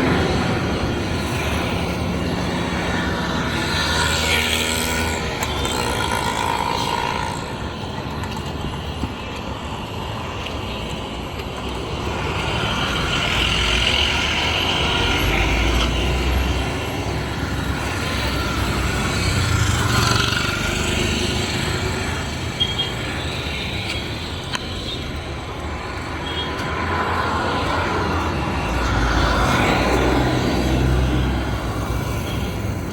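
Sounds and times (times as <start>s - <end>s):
motor vehicles passing: 0.0s - 8.5s, 11.6s - 32.9s.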